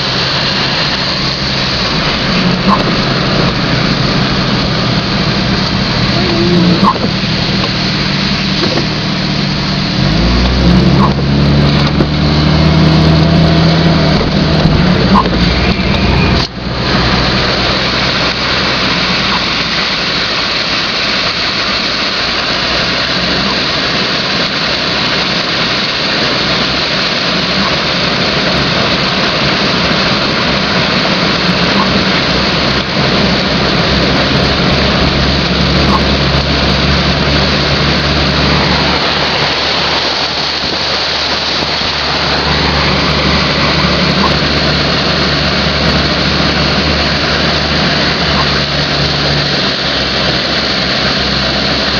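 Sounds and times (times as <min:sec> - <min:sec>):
car engine humming: 0:00.0 - 0:51.9
rain and water rushing: 0:00.0 - 0:51.9.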